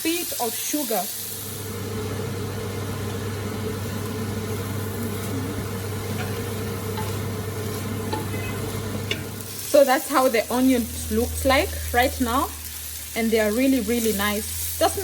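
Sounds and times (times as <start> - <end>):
onions sizzling in a pan: 0.0 - 15.0
low hum: 1.6 - 15.0.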